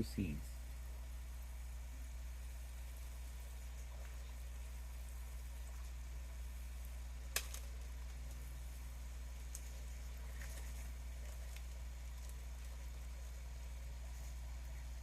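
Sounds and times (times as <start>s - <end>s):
faint ticks and rustles: 0.0s - 15.0s
steady low hum: 0.0s - 15.0s.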